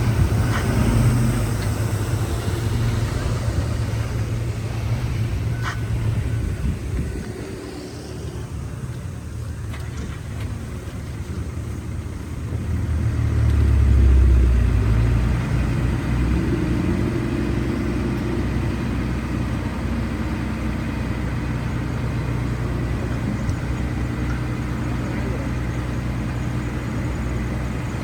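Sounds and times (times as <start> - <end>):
heavy diesel engine revving: 0.0 - 28.0.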